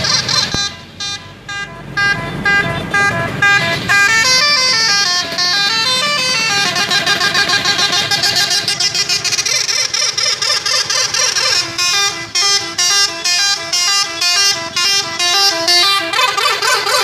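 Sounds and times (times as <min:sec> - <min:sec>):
multi-tone melody horn: 0:00.0 - 0:17.0.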